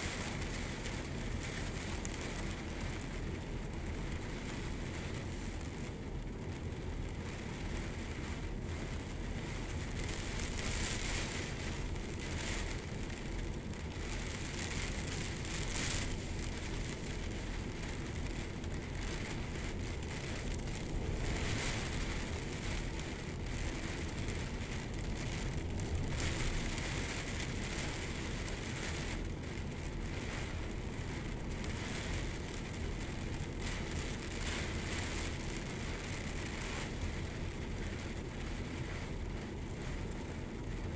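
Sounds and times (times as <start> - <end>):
heavy rain falling on water: 0.0 - 40.9
steady low rumble: 0.0 - 40.9.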